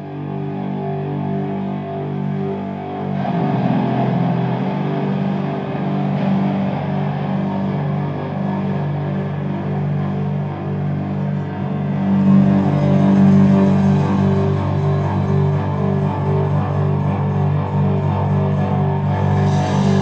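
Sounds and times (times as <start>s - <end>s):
distorted electric guitar riff: 0.0s - 20.0s.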